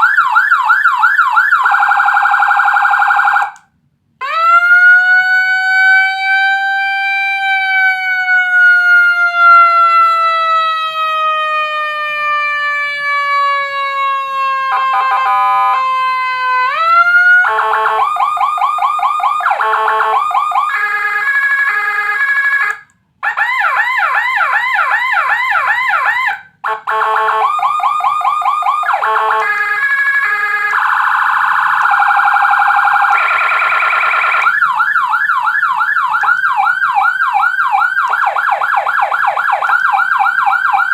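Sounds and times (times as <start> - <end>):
electronic siren wailing and yelping: 4.2 - 40.9.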